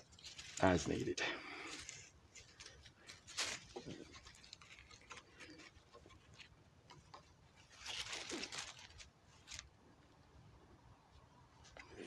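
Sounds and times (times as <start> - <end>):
twine rustling and scratching: 0.0 - 9.8.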